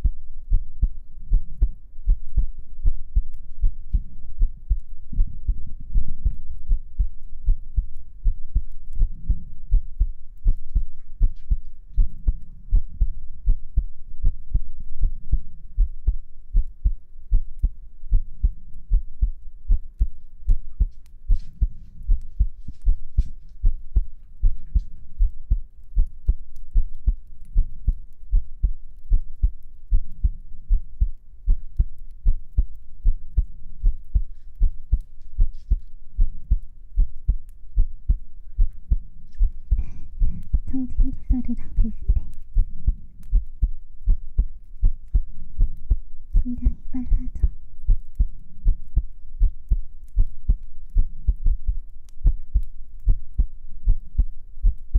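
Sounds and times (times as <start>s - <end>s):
heartbeat thumps: 0.0s - 54.9s.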